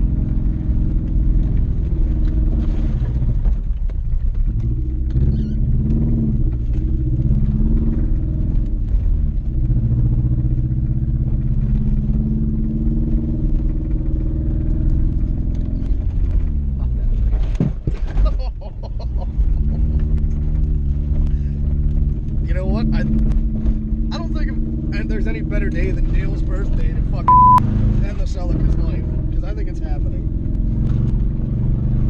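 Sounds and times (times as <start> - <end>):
car engine revving: 0.0 - 17.6, 19.3 - 32.0.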